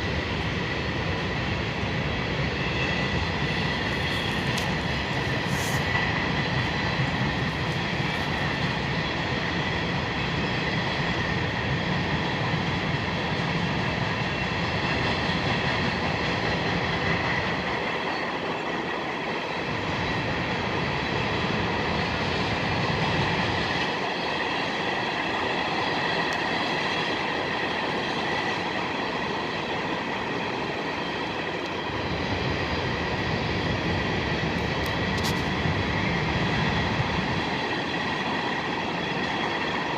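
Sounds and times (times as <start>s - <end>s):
train cars rumbling on rails: 0.0s - 39.9s.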